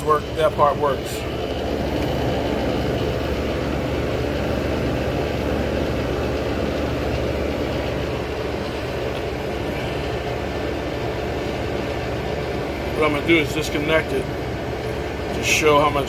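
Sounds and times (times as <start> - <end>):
air conditioner humming: 0.0 - 16.0
fan rushing: 0.0 - 16.0.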